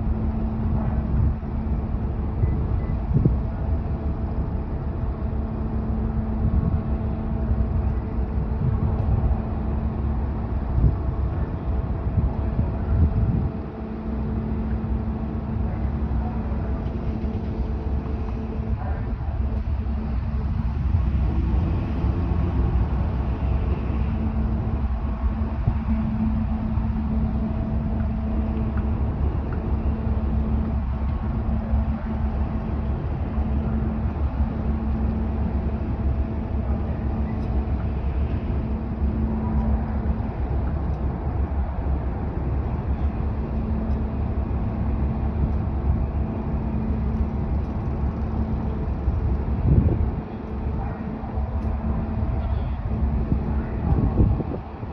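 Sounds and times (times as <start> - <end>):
ship diesel engines droning: 0.0 - 54.9.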